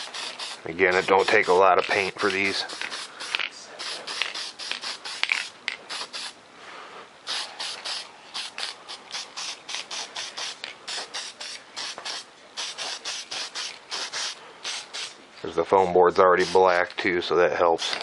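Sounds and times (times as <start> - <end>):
spray paint can hissing: 0.0 - 6.4, 7.3 - 15.2, 16.4 - 16.9.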